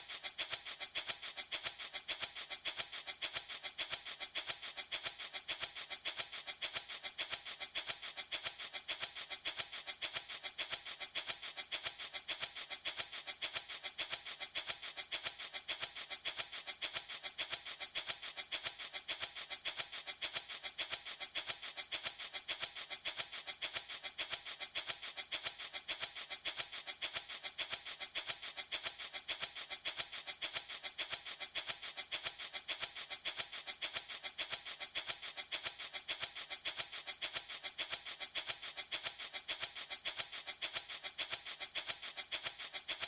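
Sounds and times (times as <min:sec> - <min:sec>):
baby rattle shaking: 0:00.0 - 0:43.0.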